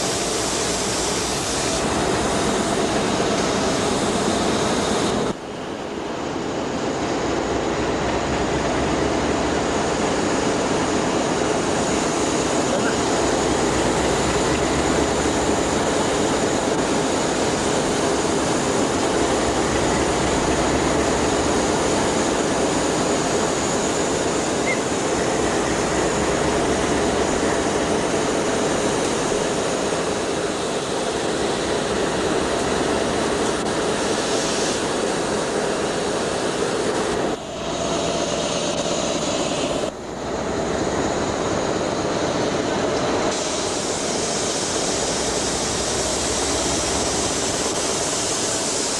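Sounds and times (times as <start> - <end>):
diesel locomotive engine droning: 0.0 - 48.9.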